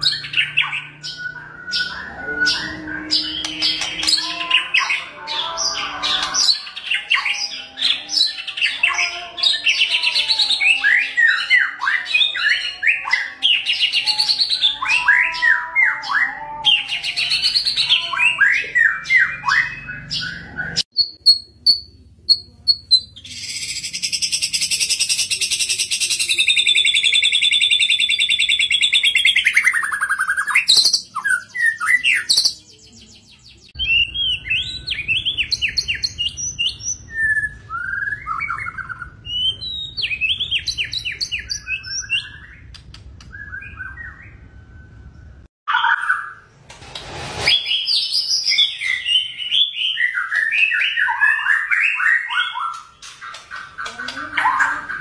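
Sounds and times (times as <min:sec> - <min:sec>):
bird singing chirps and whistles: 0:00.0 - 0:46.4, 0:47.4 - 0:55.0.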